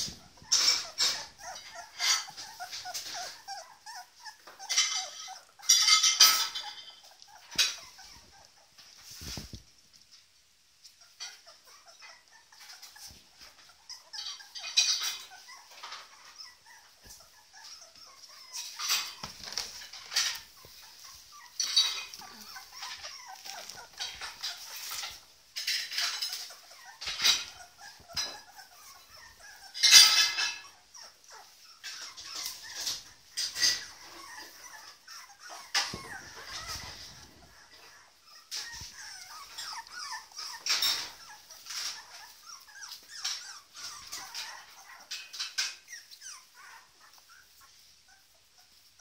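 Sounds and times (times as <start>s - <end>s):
puppies squeaking and whining: 0.0s - 9.7s, 10.8s - 49.0s.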